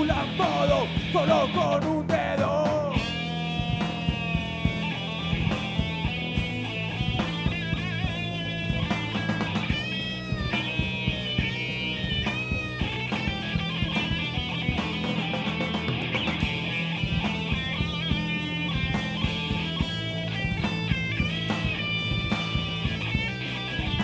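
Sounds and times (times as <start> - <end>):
held bass: 0.0 - 24.0
bending electric guitar notes: 2.9 - 24.0.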